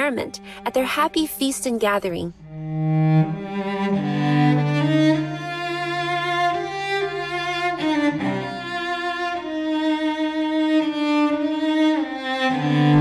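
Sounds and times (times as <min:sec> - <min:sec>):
slow bowed string music: 0:00.0 - 0:13.0.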